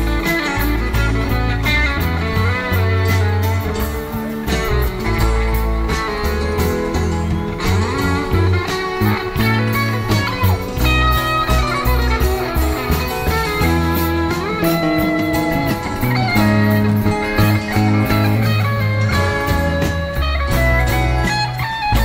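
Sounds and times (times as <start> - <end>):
bass and drums: 0.0 - 22.0
electric guitar lead: 0.0 - 22.0.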